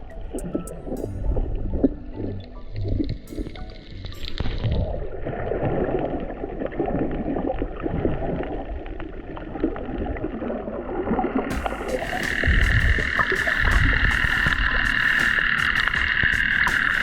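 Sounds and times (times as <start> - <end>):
underwater gurgling and crackling: 0.0 - 17.0.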